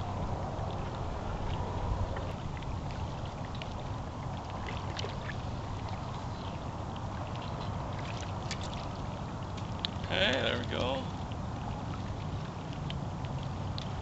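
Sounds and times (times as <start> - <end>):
small waves lapping on rocks: 0.0 - 14.0
wind rumbling on microphone: 0.0 - 14.0
light splashing ticks: 0.2 - 14.0.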